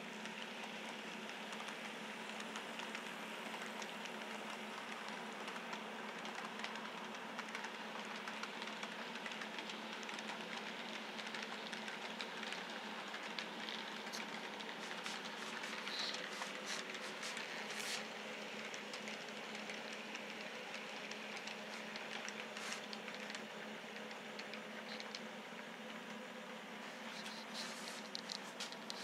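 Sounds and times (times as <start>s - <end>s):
model train rolling on track: 0.0s - 29.0s
sharp clicks and ticks: 0.2s - 26.0s.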